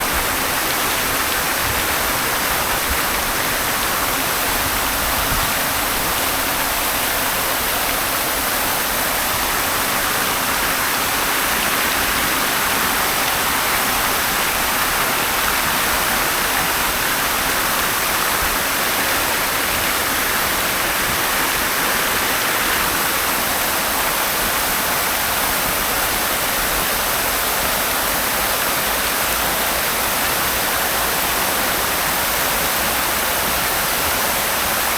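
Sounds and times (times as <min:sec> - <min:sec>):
fountain water splashing: 0:00.0 - 0:34.9.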